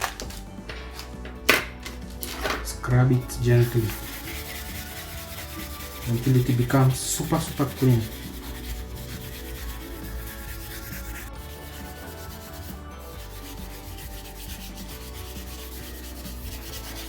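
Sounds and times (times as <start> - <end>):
steel wool scrubbing copper: 3.1 - 17.0.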